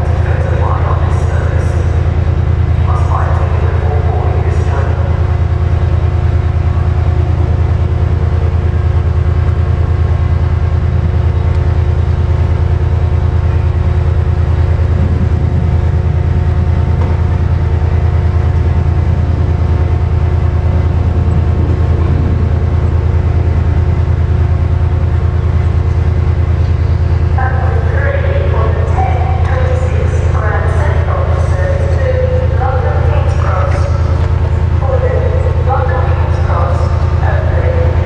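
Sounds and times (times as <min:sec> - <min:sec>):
constant hum: 0:00.0 - 0:38.0
diesel train engine idling: 0:00.0 - 0:38.0.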